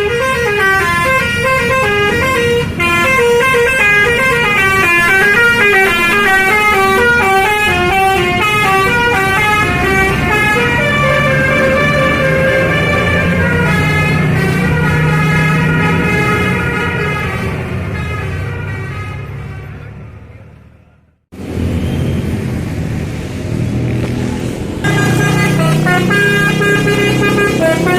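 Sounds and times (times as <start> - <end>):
multi-tone bus horns playing tune: 0.0 - 20.1, 24.8 - 27.9
bus engine rumble: 0.0 - 27.9.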